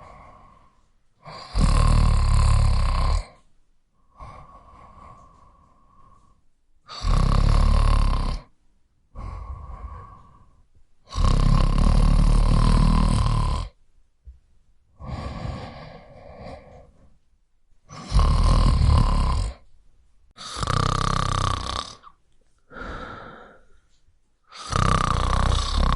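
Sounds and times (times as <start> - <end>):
person snoring: 0.0 - 3.4, 4.0 - 8.5, 9.1 - 13.8, 15.0 - 17.2, 17.9 - 19.7, 20.4 - 23.8, 24.5 - 25.9.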